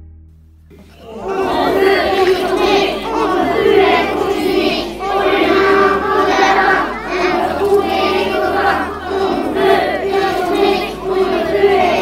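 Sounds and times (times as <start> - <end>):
children singing in chorus: 0.7 - 12.0.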